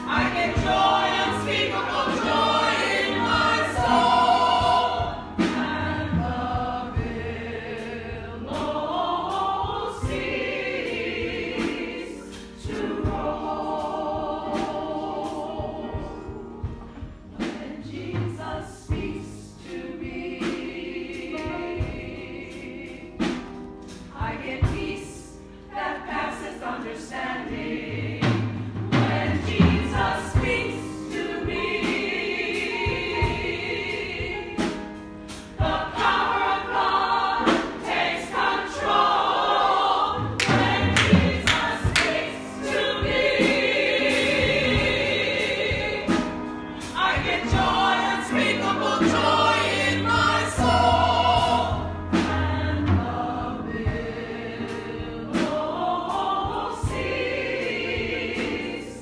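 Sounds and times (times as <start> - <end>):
congregation singing gospel song: 0.0 - 59.0.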